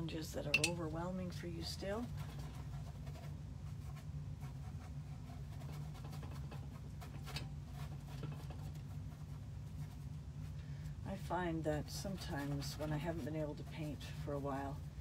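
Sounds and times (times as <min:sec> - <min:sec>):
steady low hum: 0:00.0 - 0:15.0
paintbrush brushing on canvas: 0:01.6 - 0:10.6, 0:11.8 - 0:15.0.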